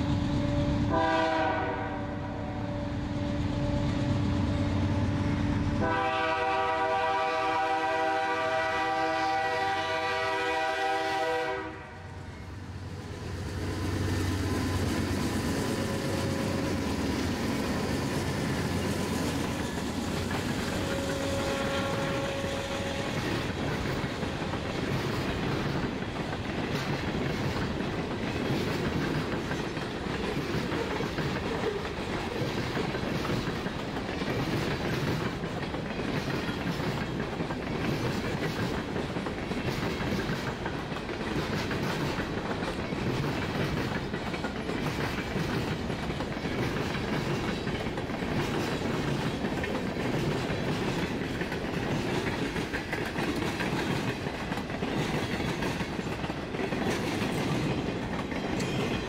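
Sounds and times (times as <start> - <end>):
clickety-clack of train wheels: 0.0 - 59.0
diesel locomotive passing: 0.0 - 59.0.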